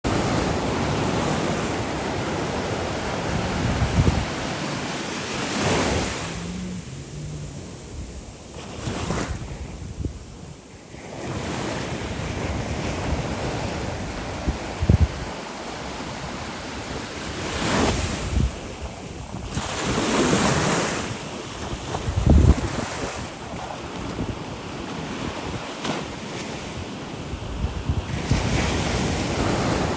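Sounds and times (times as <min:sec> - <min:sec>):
waves breaking on shore: 0:00.1 - 0:29.9
wind buffeting microphone: 0:00.1 - 0:29.9.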